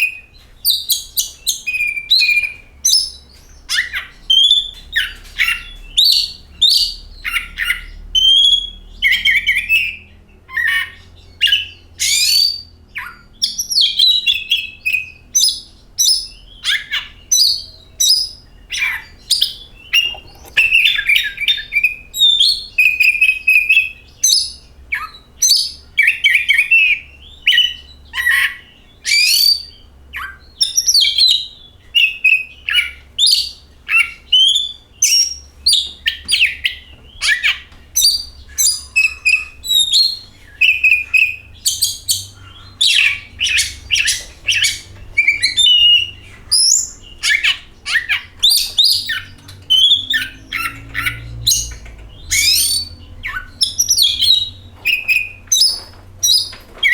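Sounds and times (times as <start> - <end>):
bird singing varied song: 0.0 - 56.9.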